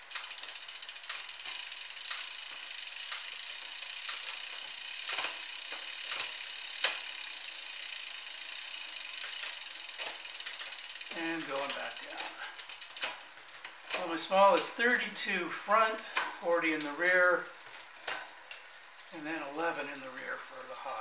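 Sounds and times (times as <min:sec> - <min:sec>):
bicycle chain running: 0:00.0 - 0:21.0.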